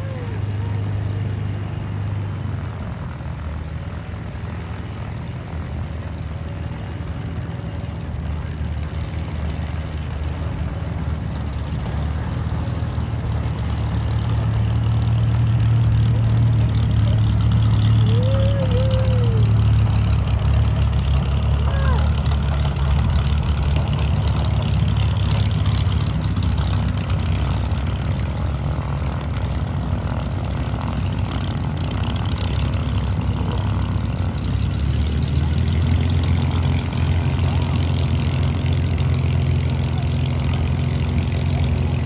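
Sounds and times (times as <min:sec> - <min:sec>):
propeller plane engine idling: 0:00.0 - 0:42.0.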